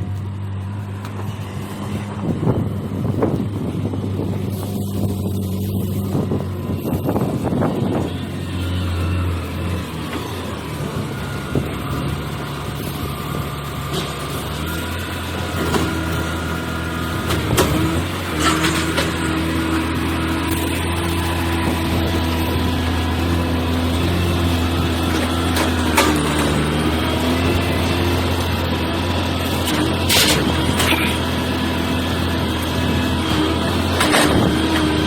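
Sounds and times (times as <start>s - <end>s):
sawmill machine engine running: 0.0s - 35.0s.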